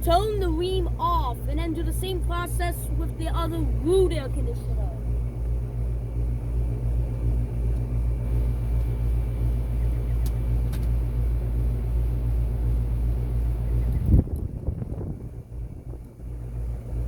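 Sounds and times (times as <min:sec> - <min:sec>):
air conditioner unit humming: 0:00.0 - 0:17.0.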